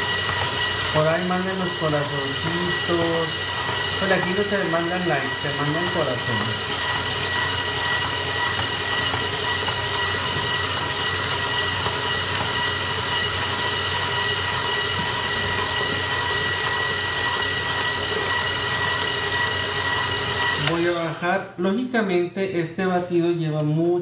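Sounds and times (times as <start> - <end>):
stand mixer motor whining: 0.0 - 21.4.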